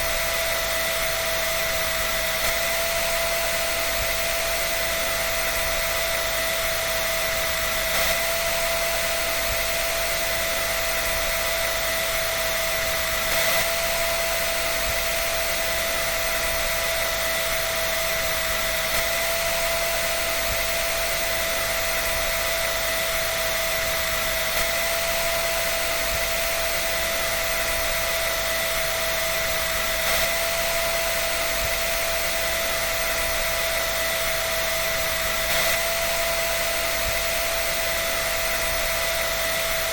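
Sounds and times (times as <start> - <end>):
electric dryer air rush: 0.0 - 39.9
steady high whine: 0.0 - 39.9.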